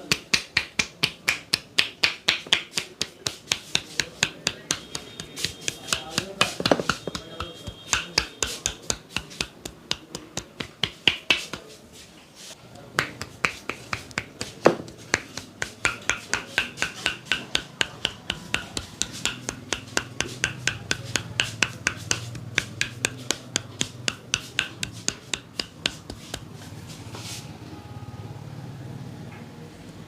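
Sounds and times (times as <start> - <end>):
hands slapping head and neck: 0.0 - 11.8, 13.0 - 26.6.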